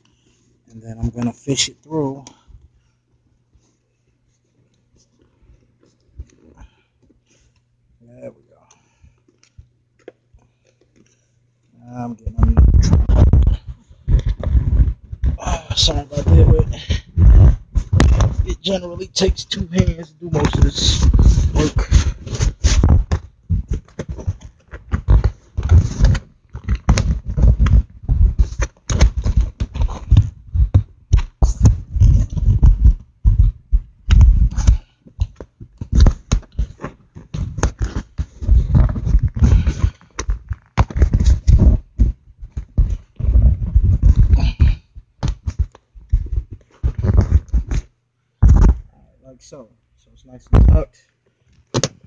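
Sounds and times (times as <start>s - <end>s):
rubbing and knocking on microphone: 0.8s - 7.5s, 12.0s - 48.9s, 50.3s - 52.0s.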